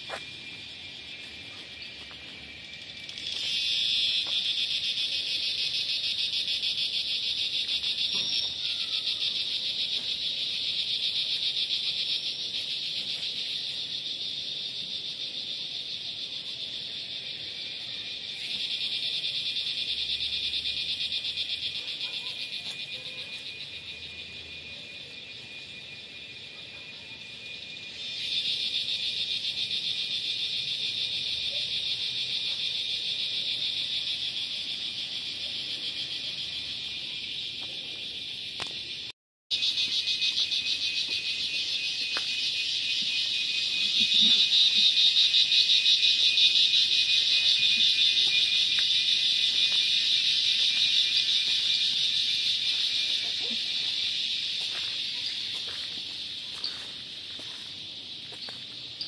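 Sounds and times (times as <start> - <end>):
insect chorus pulsing shrill: 0.0 - 59.0.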